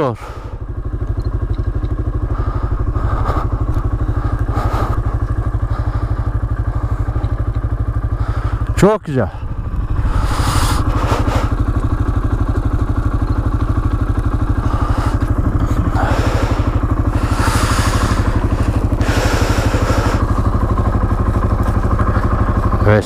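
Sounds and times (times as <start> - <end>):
atv engine idling: 0.0 - 23.0.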